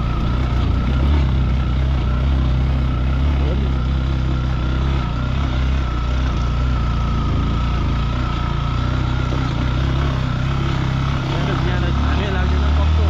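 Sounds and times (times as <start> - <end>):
motorcycle engine running: 0.0 - 13.0
thin steady whine: 0.0 - 13.0.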